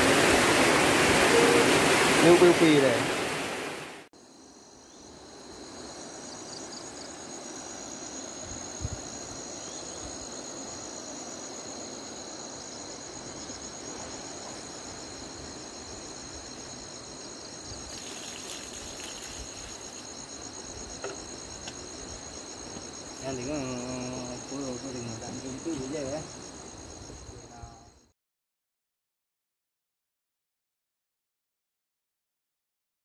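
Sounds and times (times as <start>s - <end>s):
insects chorus: 0.0s - 28.1s.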